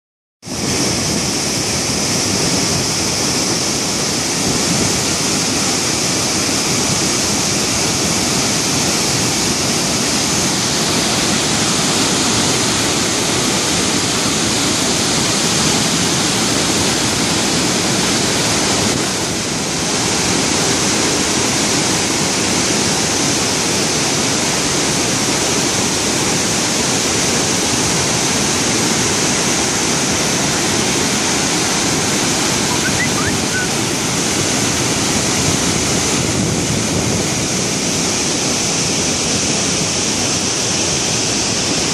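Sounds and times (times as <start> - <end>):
waterfall rushing: 0.5 - 41.9.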